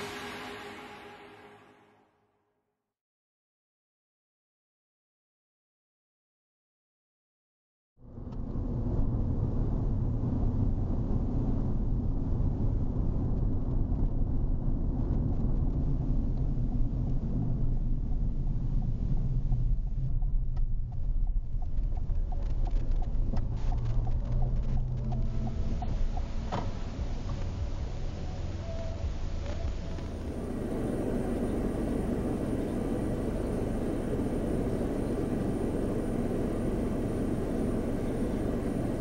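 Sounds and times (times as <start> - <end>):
car engine and road noise: 0.0 - 1.8, 8.1 - 39.0.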